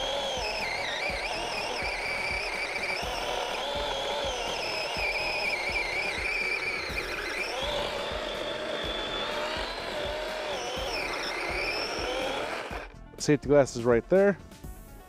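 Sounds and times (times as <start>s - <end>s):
electric chainsaw cutting log: 0.0s - 13.0s.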